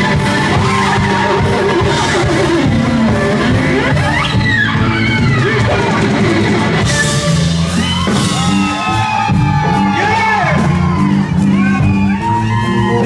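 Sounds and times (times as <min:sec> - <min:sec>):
blues rock band playing: 0:00.0 - 0:13.0
electric guitar lead: 0:00.0 - 0:13.0.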